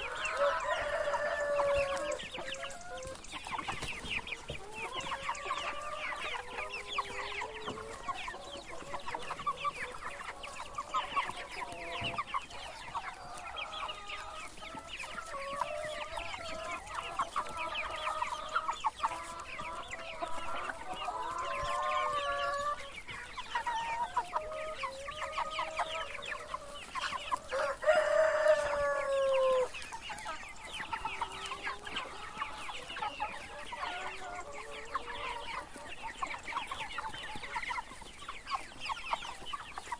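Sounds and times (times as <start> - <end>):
chickens clucking: 0.0 - 39.9
drawn-out chicken call: 0.0 - 39.9.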